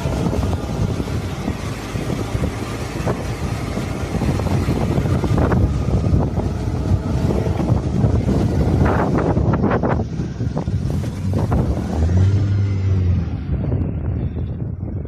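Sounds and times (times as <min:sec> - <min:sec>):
boat engine running steadily: 0:00.0 - 0:15.0
wind buffeting microphone: 0:00.0 - 0:15.0.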